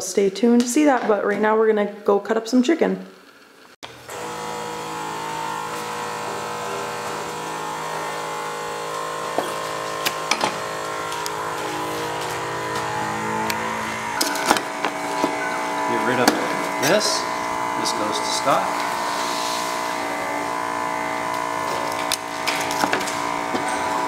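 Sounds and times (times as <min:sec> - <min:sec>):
mechanical hum with held tones: 0:03.3 - 0:24.0.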